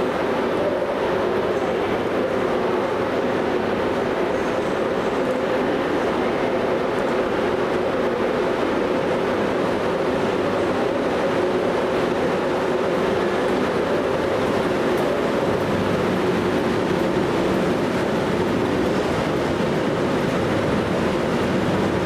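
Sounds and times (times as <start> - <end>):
train wheels rumbling and clattering: 0.0 - 22.0.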